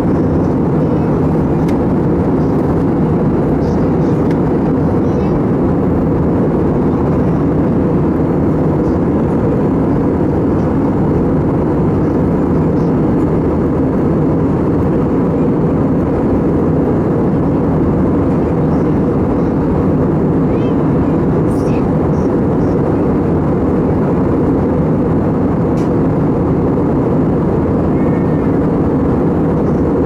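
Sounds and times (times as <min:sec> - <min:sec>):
airplane cabin engine and airflow noise: 0:00.0 - 0:30.0.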